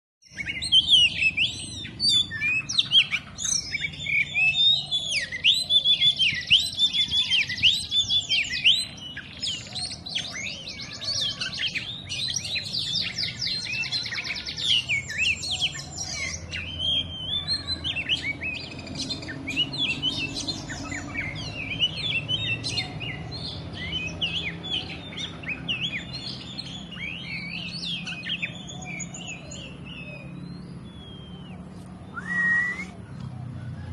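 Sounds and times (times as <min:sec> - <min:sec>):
bird singing whistled trills: 0:00.2 - 0:33.9.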